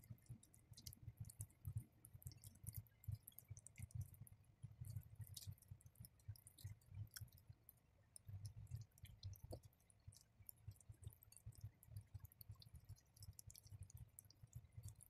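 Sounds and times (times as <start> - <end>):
wet clicks and squishes of raw chicken: 0.0 - 15.0.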